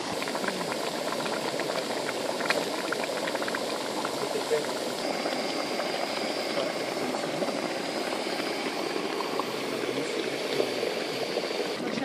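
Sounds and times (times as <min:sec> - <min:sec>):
mud pools bubbling: 0:00.0 - 0:12.0.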